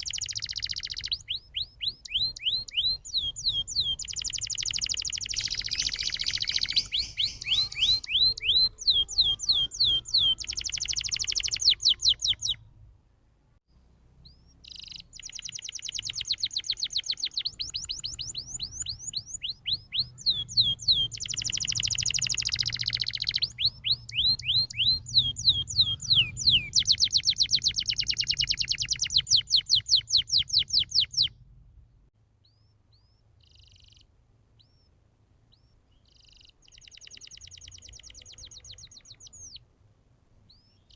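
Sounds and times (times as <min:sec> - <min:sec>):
canary singing: 0:00.0 - 0:12.6, 0:14.2 - 0:31.4, 0:32.4 - 0:39.7, 0:40.5 - 0:40.9.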